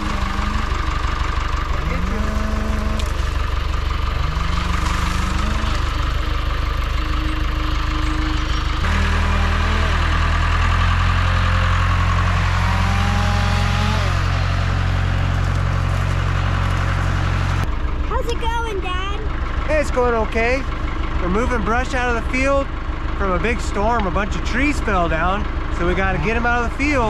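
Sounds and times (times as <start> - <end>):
tractor engine under load: 0.0 - 27.0.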